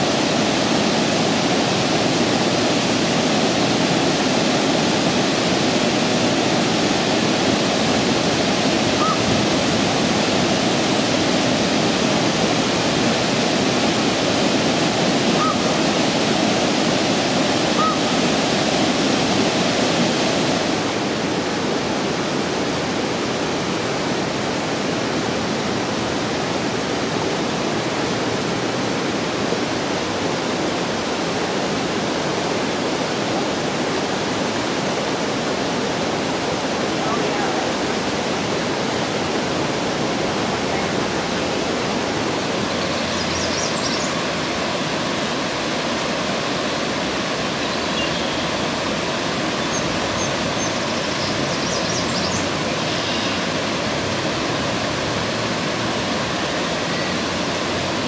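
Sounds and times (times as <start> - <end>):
water rushing over dam: 0.0 - 58.0.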